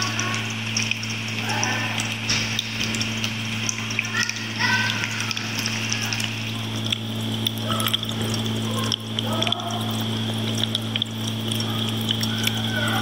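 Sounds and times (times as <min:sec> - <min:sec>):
small pump humming: 0:00.0 - 0:13.0
water trickling and splashing: 0:00.0 - 0:13.0.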